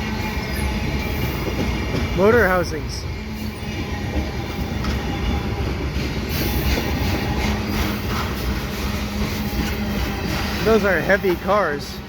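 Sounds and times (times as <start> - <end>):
train rattle and hiss: 0.0 - 12.0
train wheels rumbling on track: 0.0 - 12.0.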